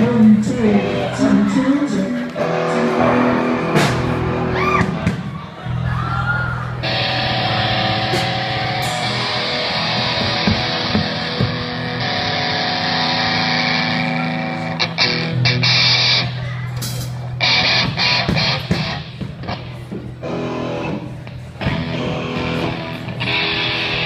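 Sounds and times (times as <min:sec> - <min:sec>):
distorted electric guitar chords: 0:00.0 - 0:06.0, 0:06.6 - 0:24.0.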